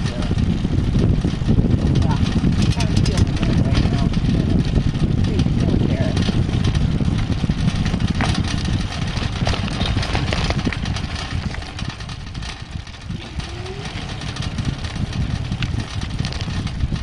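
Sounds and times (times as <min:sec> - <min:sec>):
bicycle tyre noise on asphalt: 0:00.0 - 0:17.0
small clicks and rattles: 0:00.0 - 0:17.0
wind buffeting microphone: 0:00.0 - 0:17.0.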